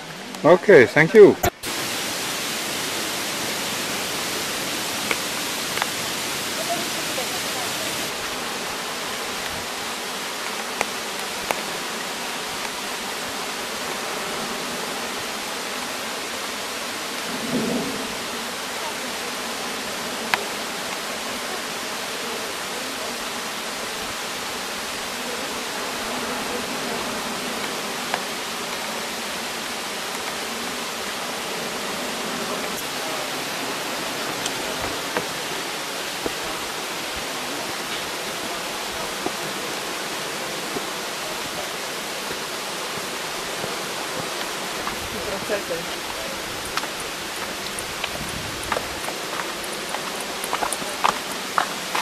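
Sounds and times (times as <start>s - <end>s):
outdoor background hiss: 0.0s - 52.0s.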